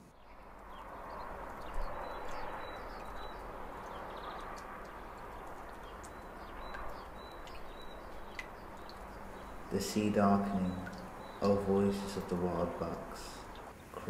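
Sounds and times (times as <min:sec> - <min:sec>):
high bird chirps: 0:00.2 - 0:13.7
steady rushing hiss: 0:01.2 - 0:14.0.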